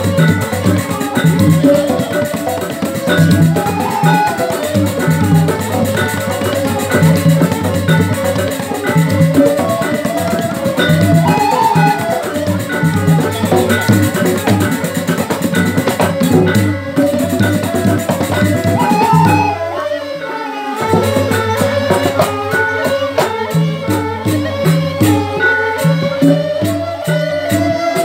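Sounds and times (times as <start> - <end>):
bamboo flutes playing melody: 0.0 - 28.0
hand drums: 0.0 - 28.0
ringing metal percussion: 0.0 - 28.0.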